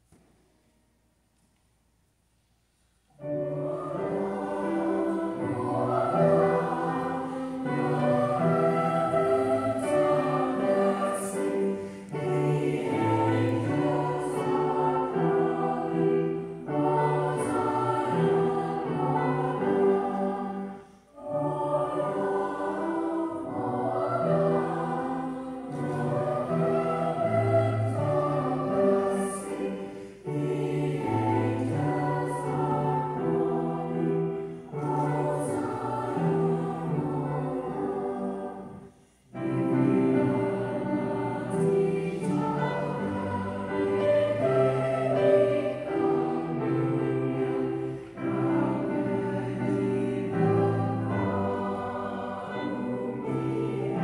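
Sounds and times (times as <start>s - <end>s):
children's choir singing: 3.2s - 54.0s.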